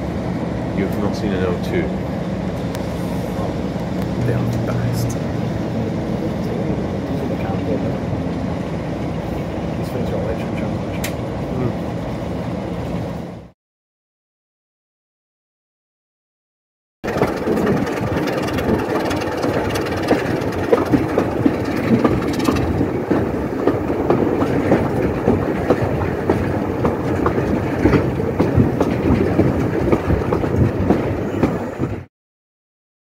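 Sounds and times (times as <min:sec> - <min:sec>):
train wheels rumbling on track: 0:00.0 - 0:13.5, 0:17.0 - 0:32.1.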